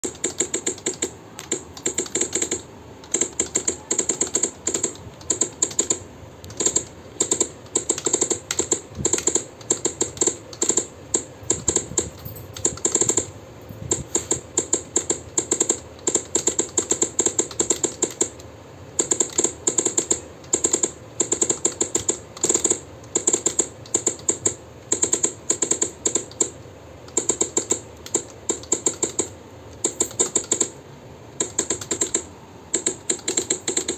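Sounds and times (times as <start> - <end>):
fast typing on keyboard: 0.0 - 30.8, 31.4 - 33.9.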